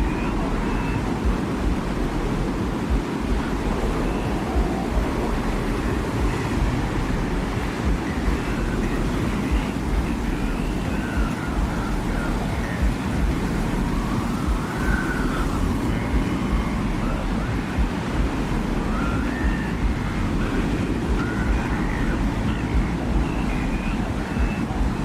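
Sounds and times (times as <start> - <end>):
faint whistling wind tones: 0.0 - 25.0
wind rumbling: 0.0 - 25.0.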